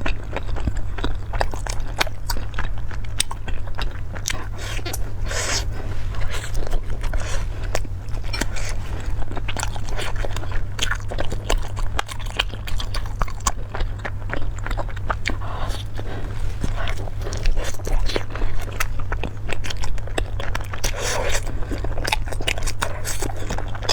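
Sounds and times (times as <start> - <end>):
person chewing and crunching food: 0.0 - 23.9.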